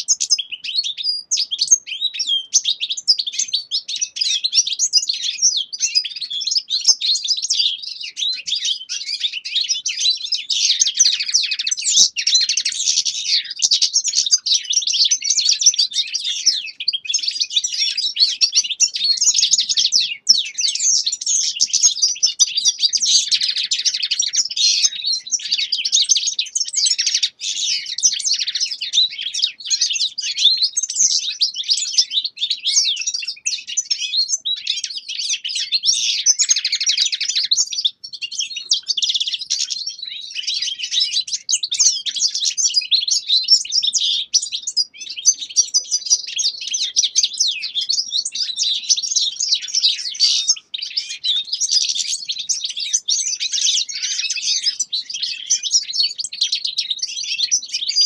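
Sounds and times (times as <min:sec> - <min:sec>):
finches twittering song: 0:00.0 - 0:58.0.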